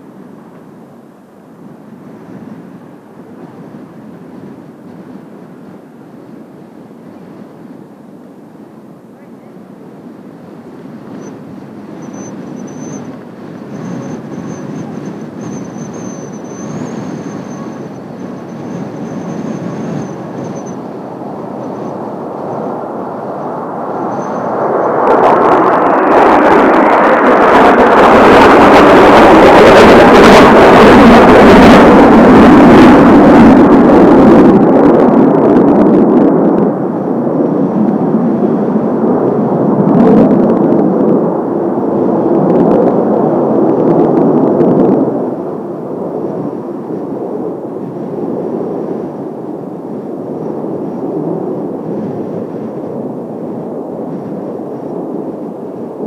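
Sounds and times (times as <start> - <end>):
jet aircraft passing overhead: 0.0 - 56.0.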